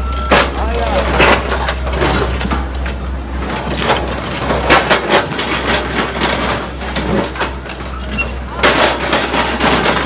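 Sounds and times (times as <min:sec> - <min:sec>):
heavy vehicle engine rumble: 0:00.0 - 0:10.0
irregular knocks and clatter: 0:00.3 - 0:10.0.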